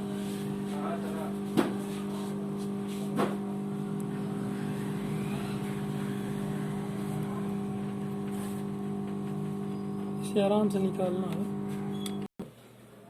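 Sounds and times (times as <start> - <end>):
hot-air blower humming: 0.0 - 12.2.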